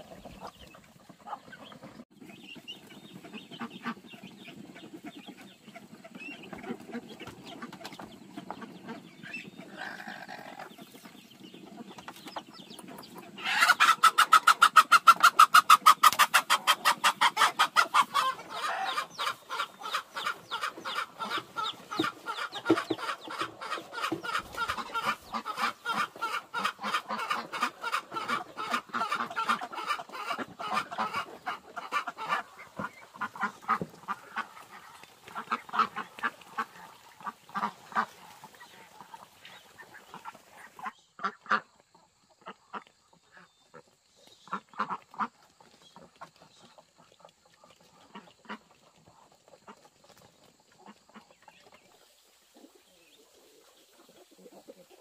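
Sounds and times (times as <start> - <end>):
ducks quacking: 0.0 - 52.0
chickens clucking: 0.0 - 55.0.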